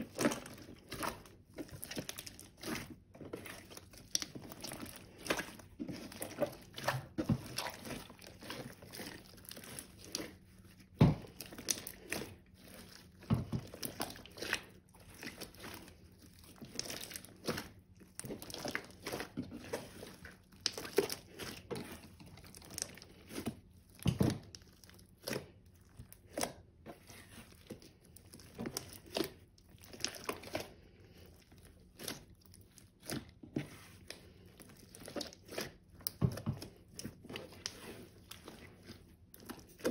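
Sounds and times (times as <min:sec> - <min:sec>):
wet slime squelches: 0:00.0 - 0:39.9.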